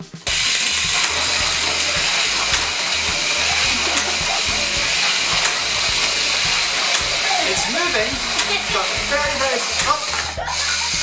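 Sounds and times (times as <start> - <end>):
slot car motor whirring: 0.2 - 11.0.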